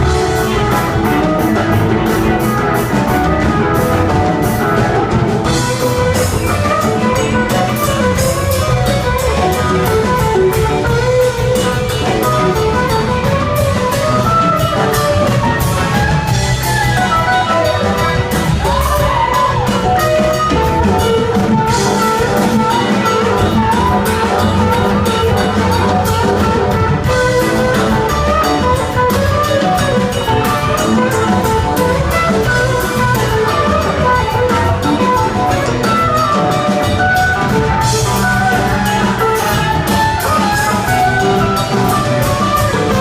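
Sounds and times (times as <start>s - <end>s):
bass guitar: 0.0s - 43.0s
drum kit: 0.0s - 43.0s
electric guitar lead lines: 0.0s - 43.0s
keyboards: 0.0s - 43.0s.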